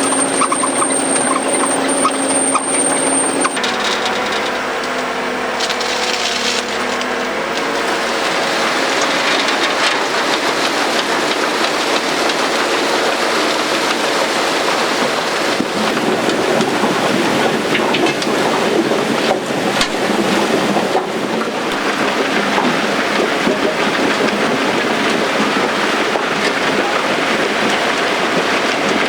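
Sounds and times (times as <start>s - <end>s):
harvester mechanical rattle: 0.0s - 29.0s
tractor engine drone: 0.0s - 29.0s.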